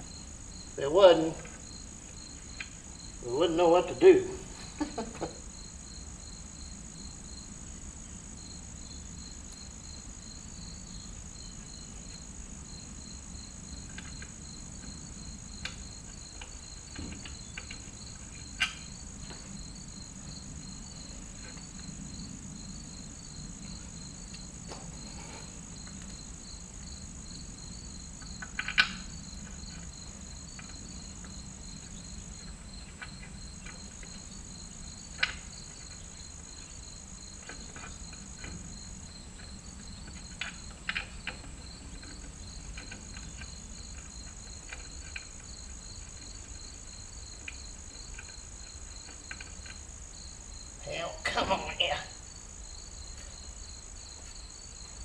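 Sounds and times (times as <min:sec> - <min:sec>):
insects chirping: 0:00.0 - 0:55.0
pulsing insect: 0:00.0 - 0:55.0.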